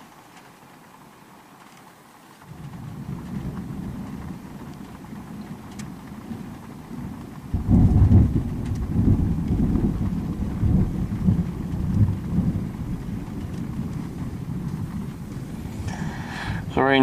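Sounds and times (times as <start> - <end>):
thunder rumbling: 2.4 - 17.0.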